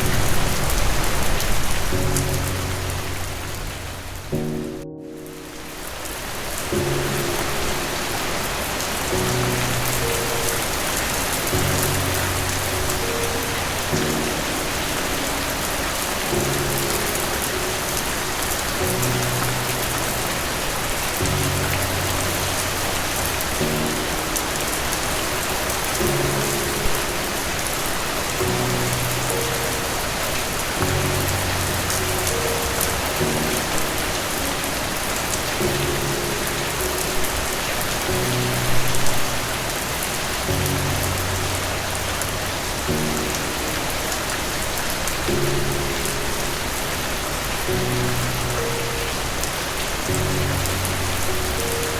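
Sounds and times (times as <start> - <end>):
soft low music chords: 0.0 - 51.9
steady rain: 0.0 - 51.9.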